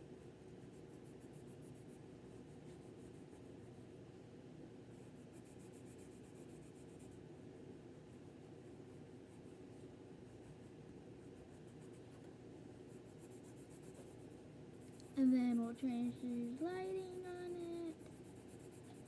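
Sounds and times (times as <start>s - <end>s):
pencil scribbling on paper: 0.1s - 3.9s, 4.9s - 7.2s, 8.0s - 19.0s.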